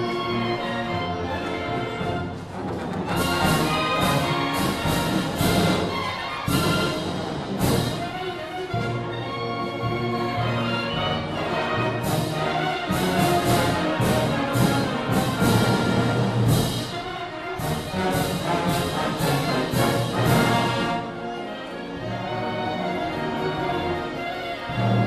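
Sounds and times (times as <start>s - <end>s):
concert band playing: 0.0s - 21.5s.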